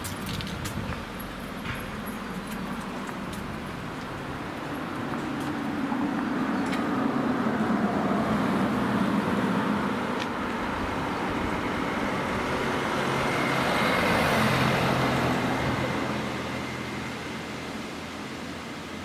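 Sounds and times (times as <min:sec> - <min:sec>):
car passing on street: 0:00.0 - 0:19.0.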